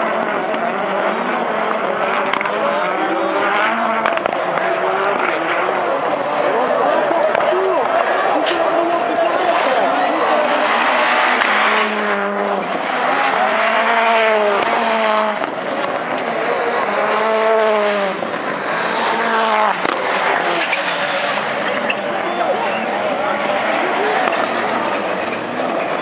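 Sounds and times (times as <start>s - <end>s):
race car engines passing: 0.0s - 26.0s.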